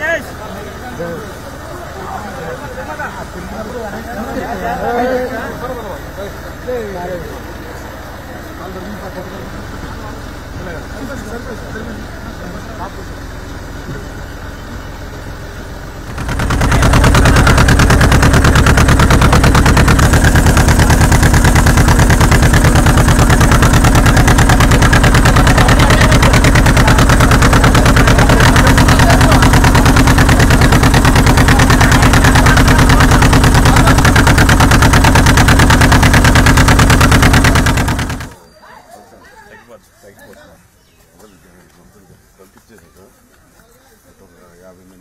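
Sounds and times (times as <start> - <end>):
loud engine running: 0.0 - 38.4.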